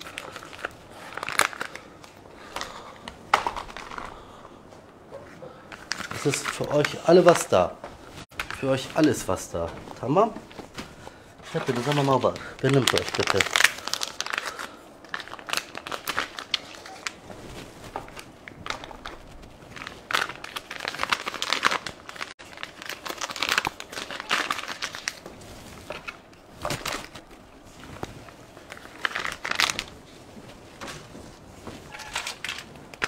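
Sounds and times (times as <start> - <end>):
plastic packets crinkling: 0.0 - 4.4, 5.7 - 31.0, 31.9 - 33.0.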